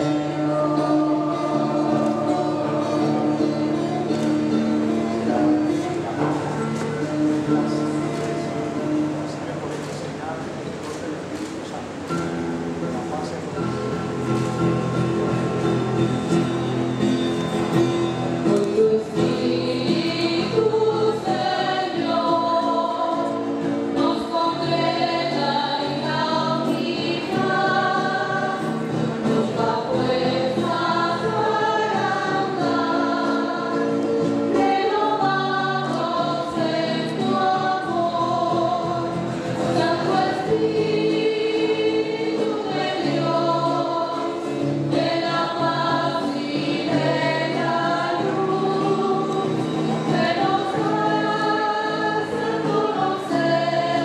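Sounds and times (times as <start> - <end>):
choir singing a hymn: 0.0 - 9.6, 13.6 - 54.0.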